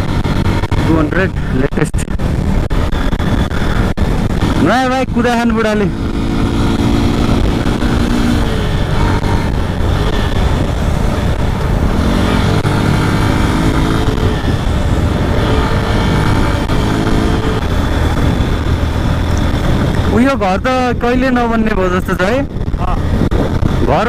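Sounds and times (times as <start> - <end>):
motorcycle engine humming: 0.0 - 24.0
wind buffeting microphone: 0.0 - 24.0.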